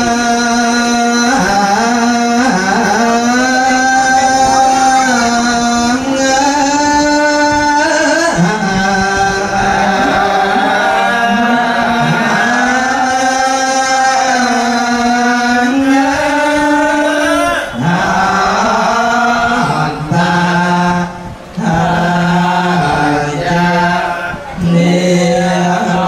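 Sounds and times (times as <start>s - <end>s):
person chanting melodically: 0.0s - 26.0s.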